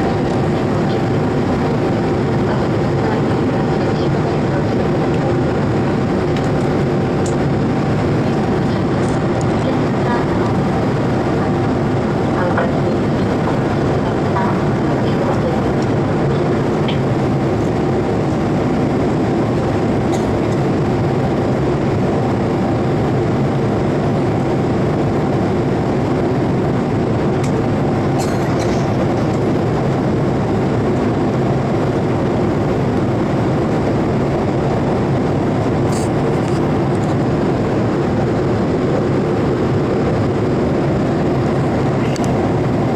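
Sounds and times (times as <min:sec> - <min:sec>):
jet engine drone: 0:00.0 - 0:42.9
low hums: 0:00.0 - 0:42.9.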